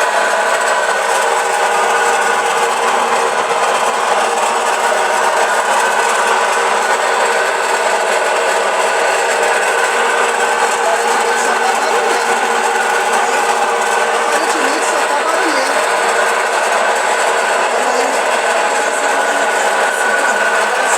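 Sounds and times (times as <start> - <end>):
washing machine spinning: 0.0 - 20.9.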